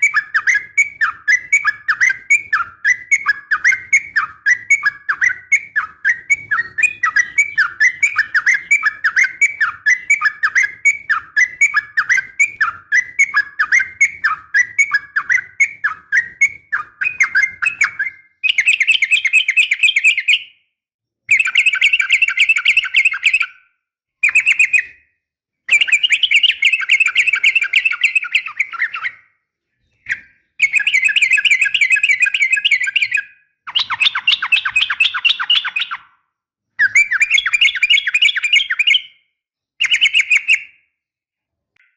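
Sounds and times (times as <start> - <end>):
bird chirping and chattering: 0.0 - 20.5, 21.3 - 23.6, 24.2 - 25.0, 25.7 - 36.2, 36.8 - 39.2, 39.8 - 40.8.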